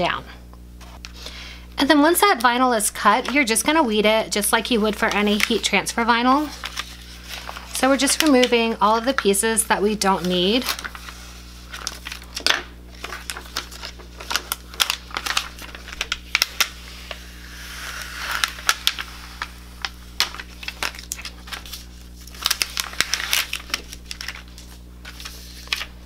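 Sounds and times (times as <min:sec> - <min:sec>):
vinyl film peeling and crinkling: 0:02.2 - 0:26.0.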